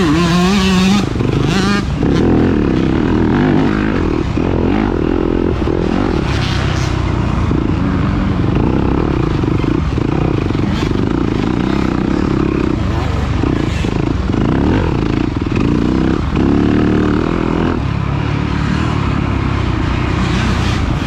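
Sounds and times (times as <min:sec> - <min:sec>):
dirt bike engine running hard: 0:00.0 - 0:21.0.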